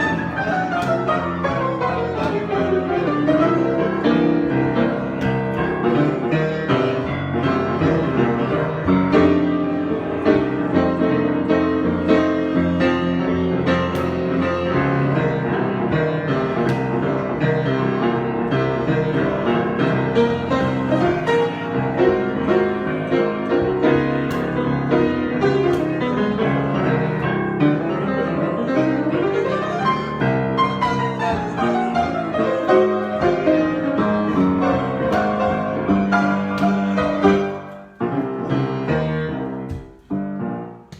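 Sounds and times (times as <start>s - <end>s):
piano improvisation: 0.0s - 40.9s.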